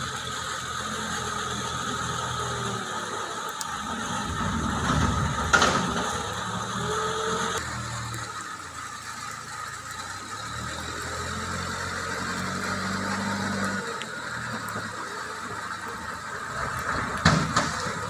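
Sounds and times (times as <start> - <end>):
diesel engine revving: 0.0 - 18.0
heavy rain: 0.0 - 18.0.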